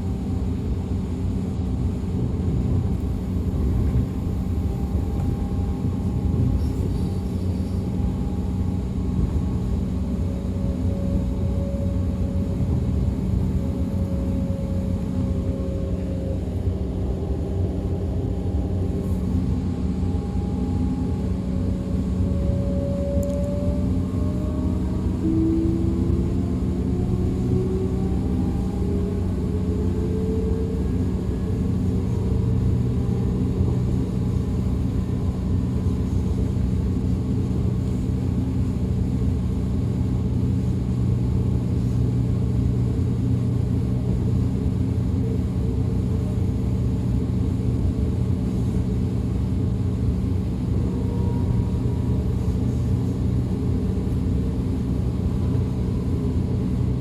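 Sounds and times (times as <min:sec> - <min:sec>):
traction motor whine: 0:00.0 - 0:57.0
train wheels rumbling on track: 0:00.0 - 0:57.0.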